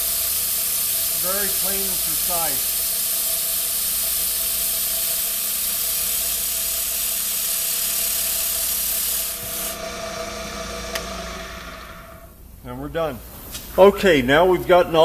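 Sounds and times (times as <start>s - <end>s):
mist coolant sprayer hissing: 0.0s - 12.4s
spindle motor humming: 0.0s - 12.5s.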